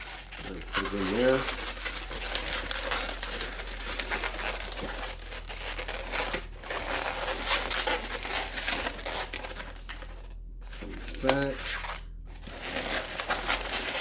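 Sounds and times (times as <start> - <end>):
balloons rubbing and squeaking: 0.0 - 14.0.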